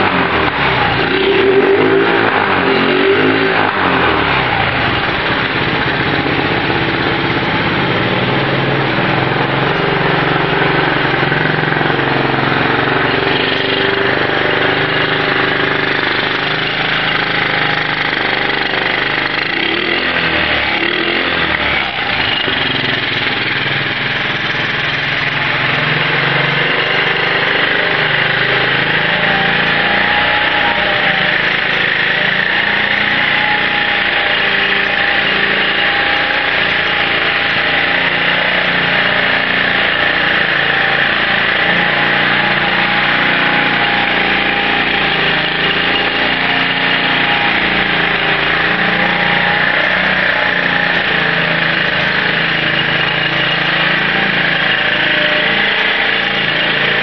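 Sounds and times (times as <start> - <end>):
engine throttle blips: 0.0 - 57.0
mini bike engine idling: 0.0 - 57.0.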